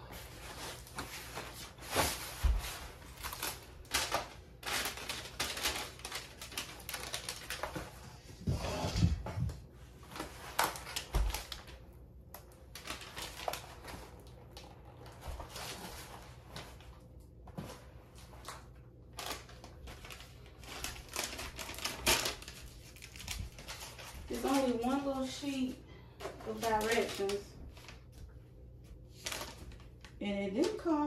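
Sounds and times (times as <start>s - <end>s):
packaging rustling and crinkling: 0.0s - 31.0s.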